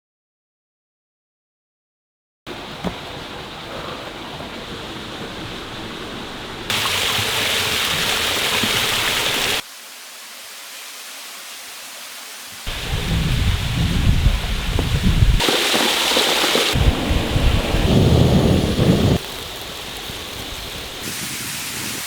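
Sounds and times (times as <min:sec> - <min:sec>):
waterfall and stream rushing: 0:02.5 - 0:22.0.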